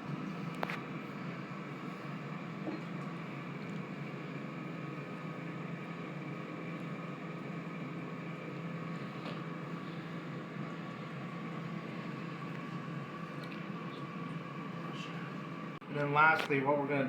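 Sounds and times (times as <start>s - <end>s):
mechanical fan hum: 0.0s - 17.0s.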